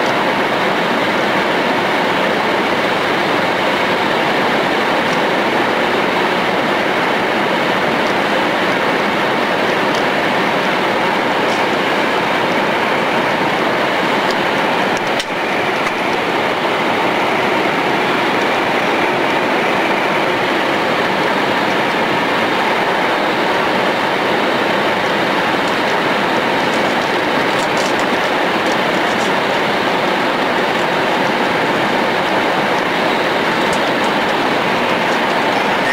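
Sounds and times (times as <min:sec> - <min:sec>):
train running at speed: 0:00.0 - 0:35.9.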